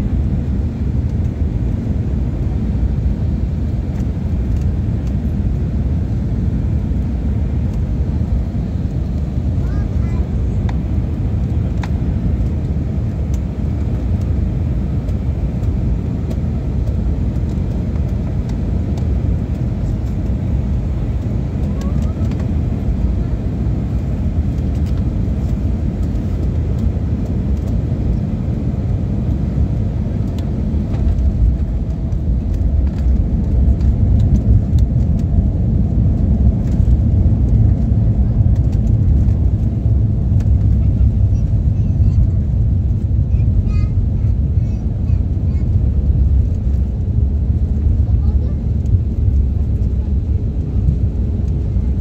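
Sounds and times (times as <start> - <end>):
airliner engines and rushing air: 0.0 - 52.0.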